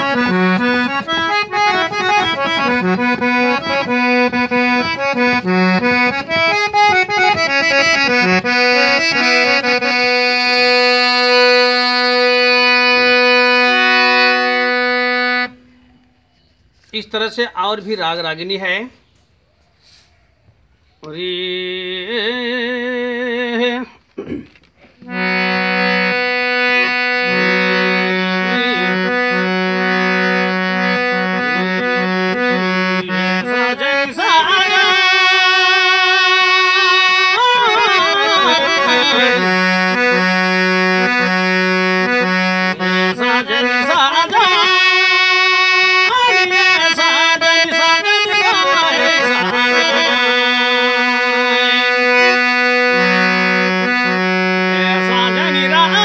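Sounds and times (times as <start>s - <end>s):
free-reed instrument melody: 0.0s - 17.0s, 24.6s - 56.0s.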